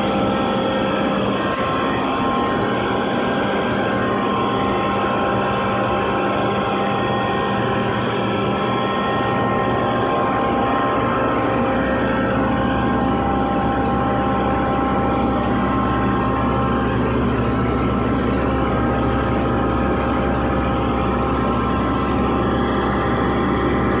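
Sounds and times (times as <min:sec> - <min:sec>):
air compressor humming: 0:00.0 - 0:24.0
higher machine tone: 0:00.0 - 0:24.0.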